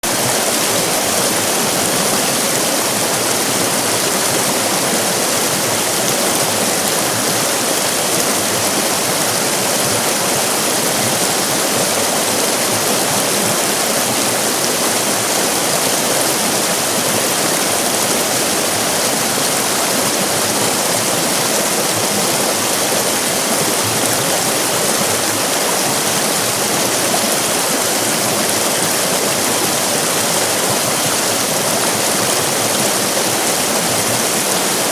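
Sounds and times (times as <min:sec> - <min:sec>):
river rapids rushing: 0:00.0 - 0:34.9.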